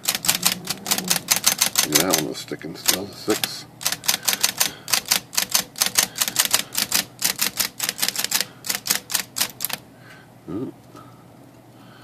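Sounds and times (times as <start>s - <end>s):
electric typewriter typebars striking: 0.0s - 9.8s.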